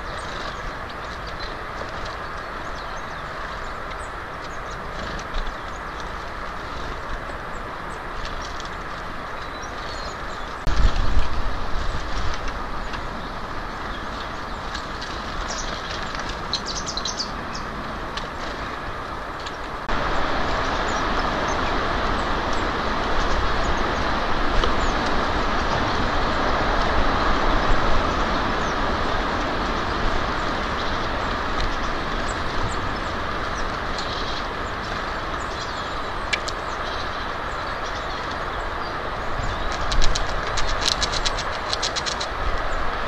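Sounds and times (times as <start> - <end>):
outdoor background rumble and hiss: 0.0 - 43.0.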